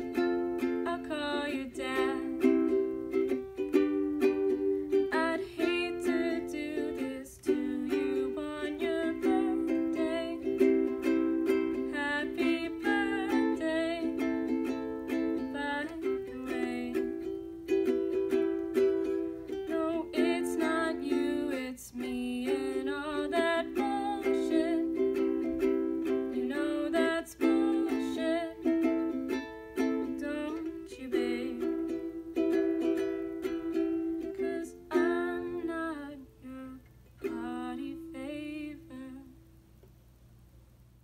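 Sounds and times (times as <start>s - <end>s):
young woman singing: 0.0s - 17.4s, 18.6s - 32.2s, 32.9s - 39.5s
ukulele strumming: 0.0s - 39.4s.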